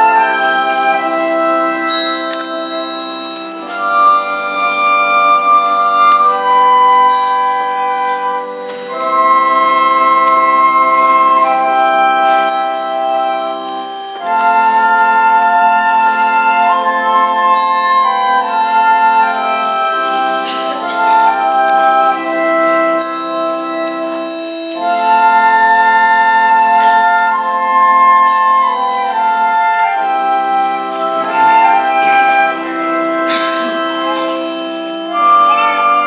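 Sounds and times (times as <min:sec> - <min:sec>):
organ playing slow chords: 0:00.0 - 0:36.0.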